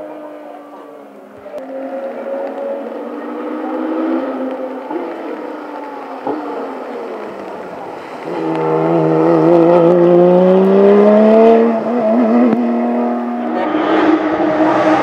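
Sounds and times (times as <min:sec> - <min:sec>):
racing engine at full throttle: 0:01.4 - 0:15.0.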